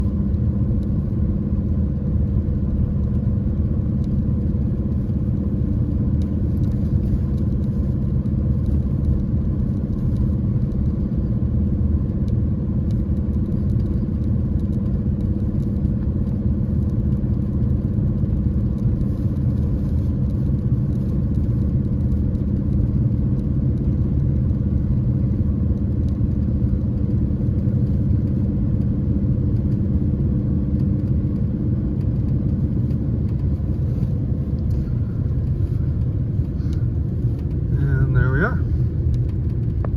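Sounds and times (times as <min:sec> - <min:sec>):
car engine hum: 0:00.0 - 0:39.9
low road rumble: 0:00.0 - 0:39.9.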